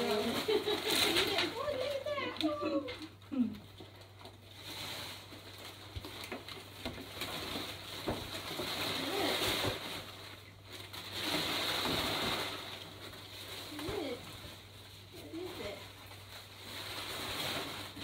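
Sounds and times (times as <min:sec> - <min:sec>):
wrapping paper rustling: 0:00.0 - 0:18.0.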